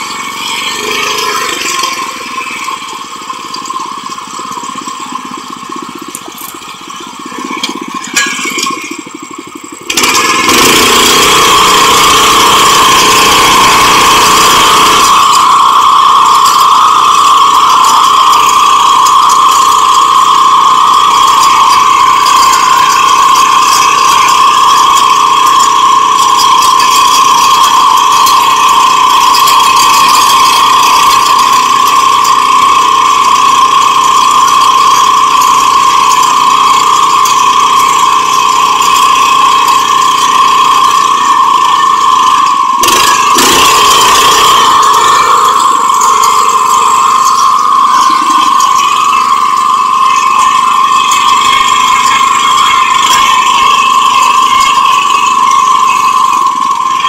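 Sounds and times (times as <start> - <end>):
high engine whine: 0.0 - 57.0
small tiller engine running: 0.0 - 57.0.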